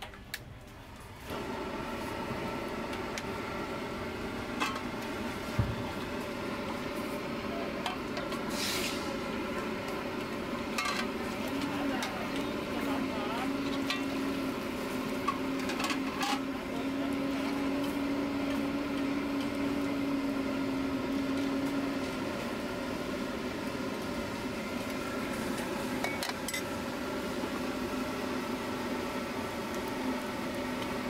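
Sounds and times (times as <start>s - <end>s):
mechanical hum: 0.0s - 31.0s.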